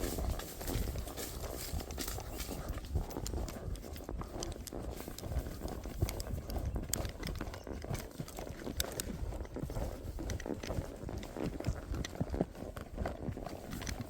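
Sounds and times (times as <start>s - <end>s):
hooves clopping on ground: 0.0s - 14.0s.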